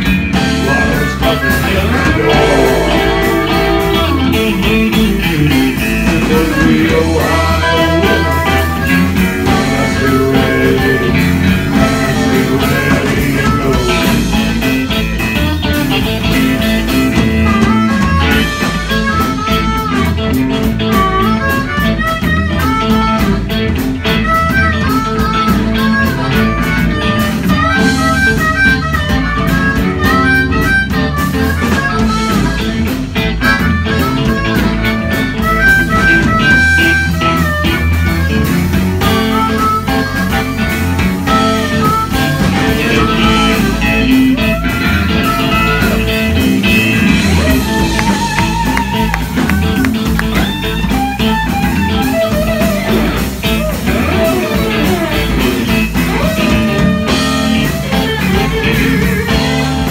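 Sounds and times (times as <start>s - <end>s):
blues band playing: 0.0s - 59.9s
harmonica bending notes: 0.0s - 59.9s.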